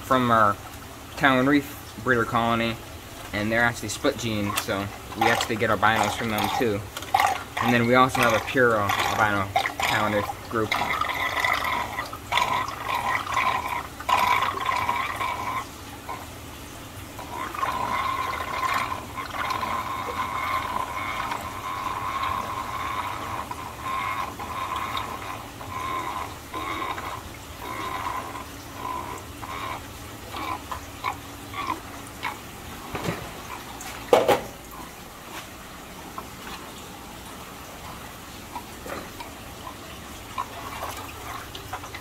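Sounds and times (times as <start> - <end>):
aquarium water trickling: 0.0 - 42.0
small knocks and splashes: 3.1 - 16.3, 17.2 - 42.0.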